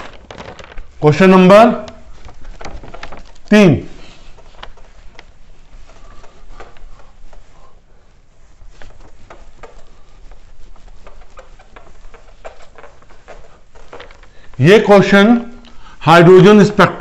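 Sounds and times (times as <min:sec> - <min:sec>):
duster wiping whiteboard: 0:01.0 - 0:17.0.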